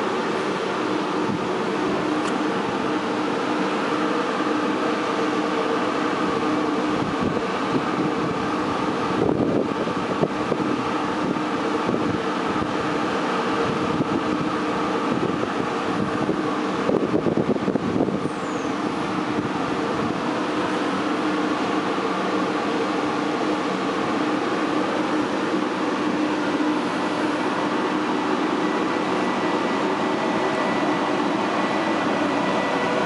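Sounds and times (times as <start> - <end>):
locomotive electrical hum: 0.0 - 33.0.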